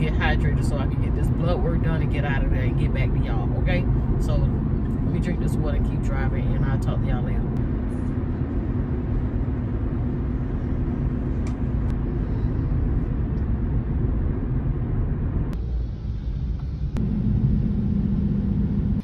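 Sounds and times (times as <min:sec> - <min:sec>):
car cabin road rumble: 0:00.0 - 0:19.0.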